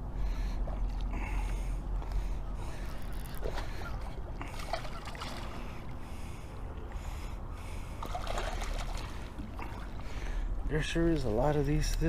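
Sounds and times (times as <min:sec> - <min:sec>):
water rumbling: 0:00.9 - 0:11.6.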